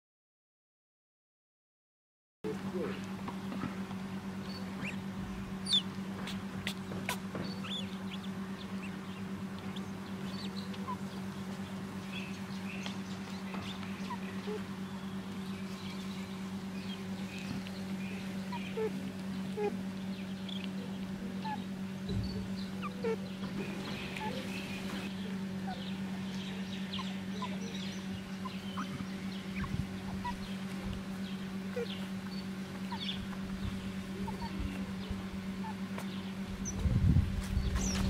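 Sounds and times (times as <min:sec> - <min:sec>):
steady low hum: 0:02.5 - 0:38.0
mongooses chirping and squeaking: 0:04.4 - 0:35.8.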